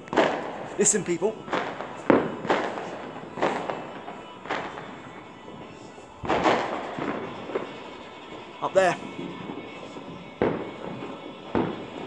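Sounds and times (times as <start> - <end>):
distant fireworks bangs: 0.0 - 12.0.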